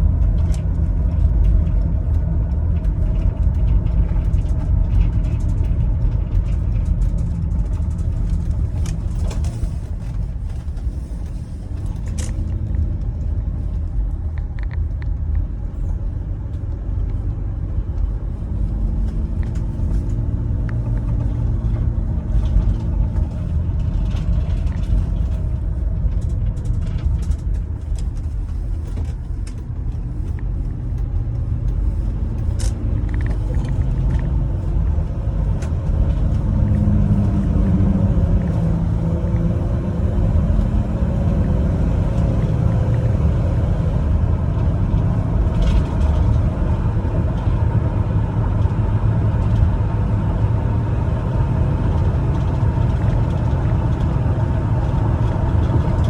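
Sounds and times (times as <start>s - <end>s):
light clicks and rattles: 0.0s - 50.4s, 51.1s - 56.0s
minivan engine: 0.0s - 56.0s
road rumble: 0.0s - 56.0s.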